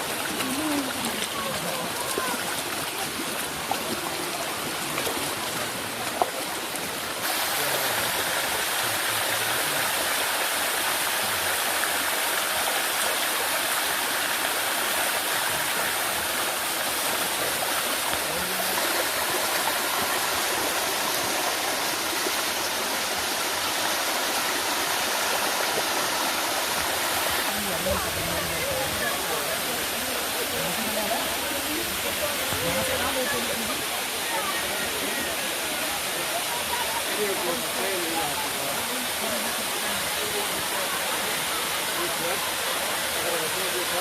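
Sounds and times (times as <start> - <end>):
water rushing down a waterfall: 0.0 - 44.0.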